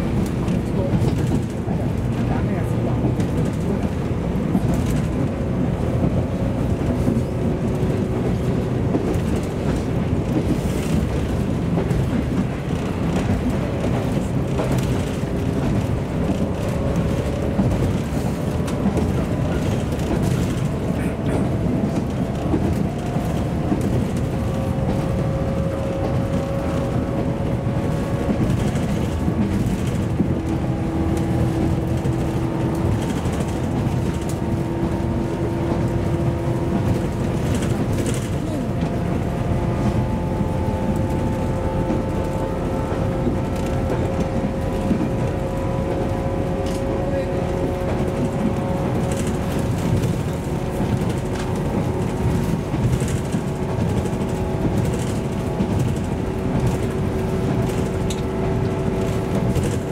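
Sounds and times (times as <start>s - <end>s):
train car rattling: 0.0s - 59.9s
wheels rumbling on rail: 0.0s - 59.9s.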